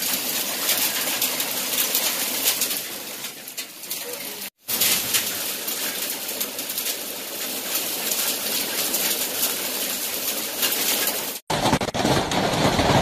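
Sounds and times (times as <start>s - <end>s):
hail and rain pelting balcony: 0.0s - 13.0s.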